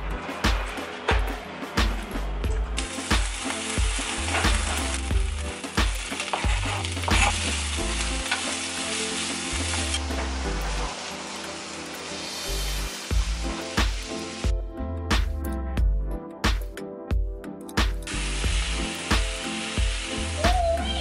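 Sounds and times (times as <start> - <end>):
frying sizzle: 0.5 - 14.6, 17.8 - 21.0.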